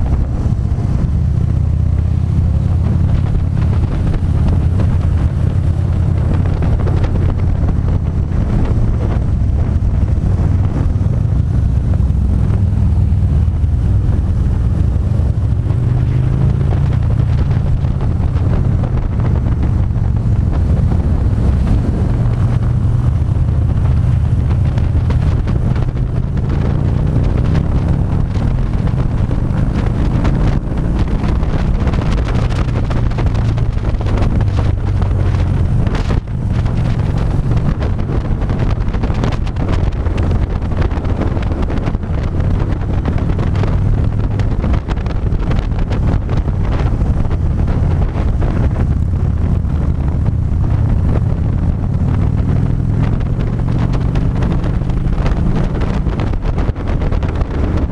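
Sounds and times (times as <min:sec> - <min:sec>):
motorcycle engine running: 0:00.0 - 0:57.9
wind noise on microphone: 0:00.0 - 0:57.9.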